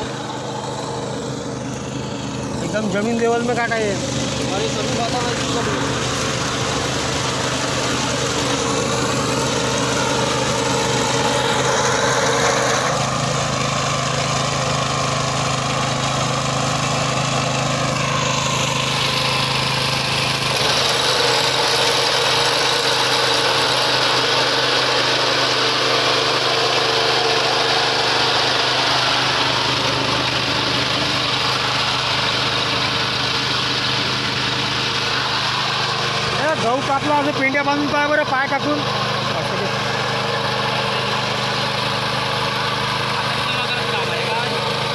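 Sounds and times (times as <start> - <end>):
cutter bar mowing grass: 0.0 - 44.9
small petrol engine running: 0.0 - 44.9.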